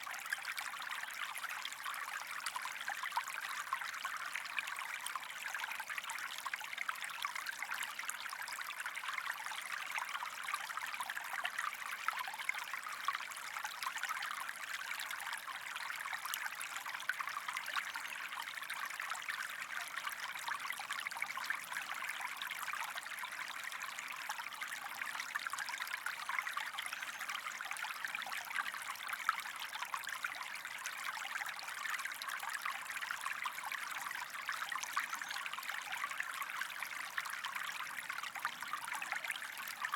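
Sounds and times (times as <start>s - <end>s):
creek water trickling over stones: 0.0s - 39.9s.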